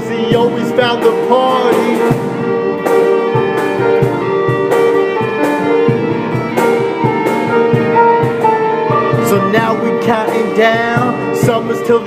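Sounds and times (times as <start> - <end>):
band playing instrumental: 0.0 - 12.0
guitar: 0.0 - 12.0
held melodic notes: 0.0 - 12.0
steady drum beat: 0.0 - 12.0.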